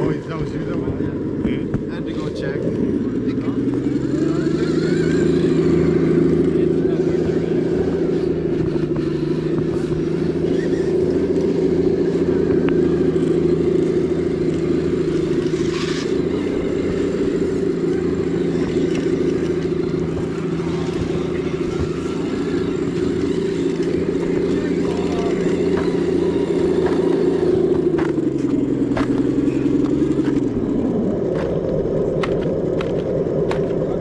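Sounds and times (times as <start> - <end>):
engine-like drone: 0.0 - 34.0.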